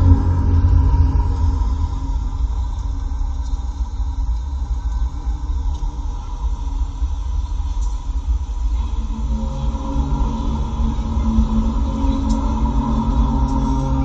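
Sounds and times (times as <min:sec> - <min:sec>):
deep rumble in the sky: 0:00.0 - 0:14.0
faint steady hum: 0:00.0 - 0:14.0.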